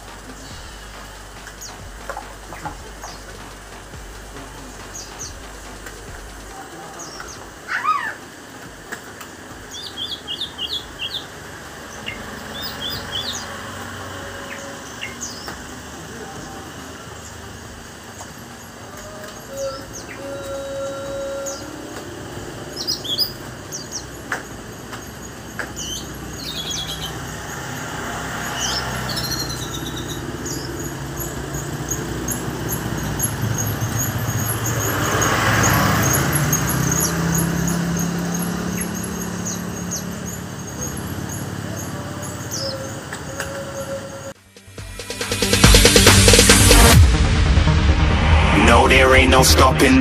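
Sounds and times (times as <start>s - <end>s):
motor vehicle passing: 0.0s - 44.4s
thrush singing chirping phrases: 0.0s - 44.4s, 45.0s - 50.0s.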